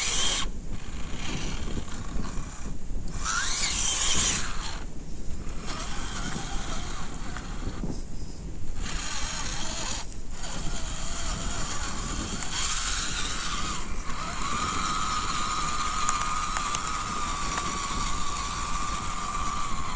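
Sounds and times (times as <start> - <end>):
electric motor whining: 0.0 - 19.9.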